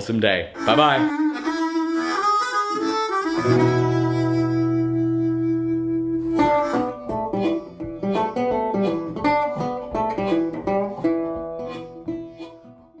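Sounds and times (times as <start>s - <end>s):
plucked string instrument: 0.6s - 13.0s.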